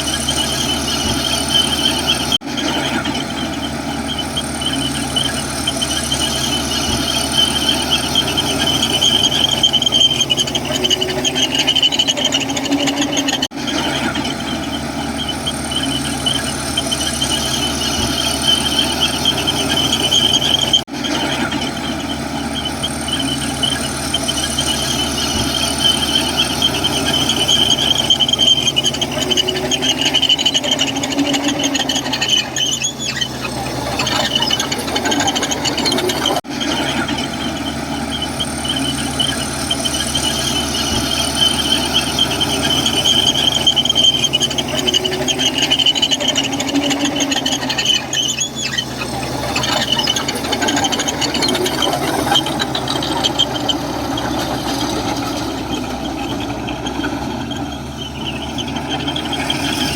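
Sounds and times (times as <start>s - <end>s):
bulldozer tracks squealing: 0.0s - 59.9s
diesel engine running: 0.0s - 59.9s.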